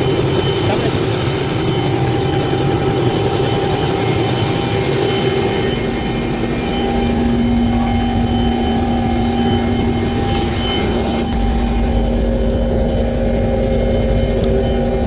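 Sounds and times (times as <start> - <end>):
helicopter engine and rotor: 0.0 - 15.0
low steady tone: 0.0 - 15.0.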